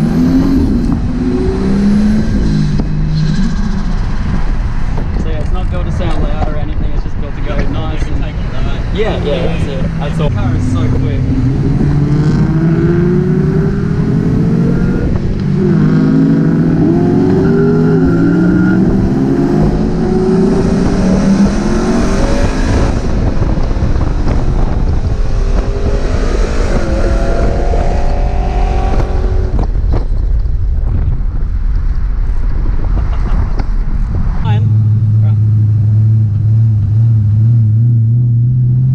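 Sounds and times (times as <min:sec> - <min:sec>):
car engine revving: 0:00.0 - 0:30.0, 0:32.8 - 0:38.9.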